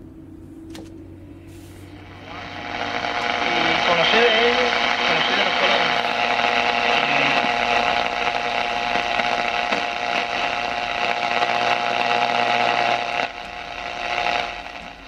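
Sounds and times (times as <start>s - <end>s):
steady low hum: 0.0s - 15.0s
radio static hiss: 1.5s - 15.0s.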